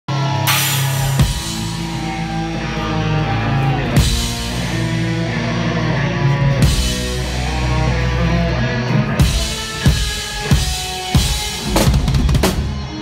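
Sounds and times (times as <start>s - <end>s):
heavy metal band music: 0.1s - 13.0s.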